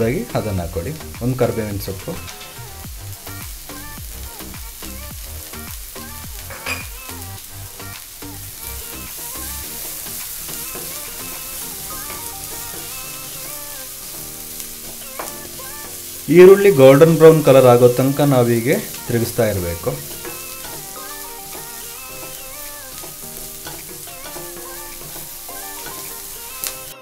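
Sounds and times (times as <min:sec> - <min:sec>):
onions sizzling in hot oil: 0:00.0 - 0:27.0
soft background music: 0:00.0 - 0:27.0.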